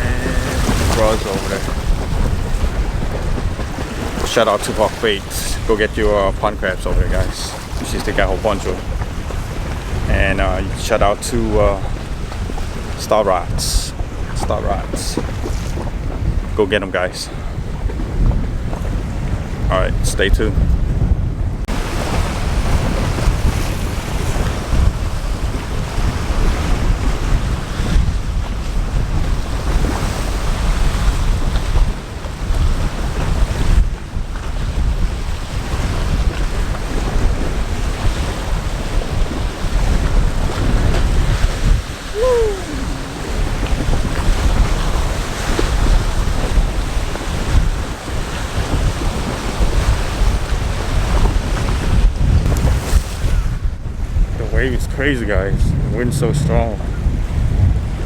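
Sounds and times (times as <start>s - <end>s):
waves splashing against shore: 0.0s - 20.7s, 21.7s - 58.0s
wind buffeting microphone: 0.0s - 58.0s.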